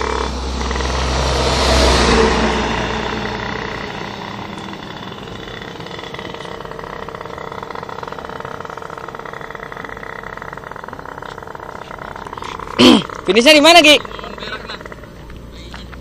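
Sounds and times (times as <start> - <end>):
two-stroke motorcycle engine running: 0.0 - 16.0.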